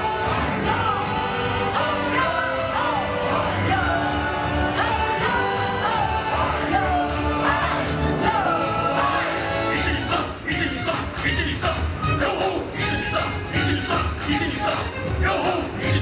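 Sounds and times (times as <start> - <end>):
upbeat stage-show music with singing: 0.0 - 16.0.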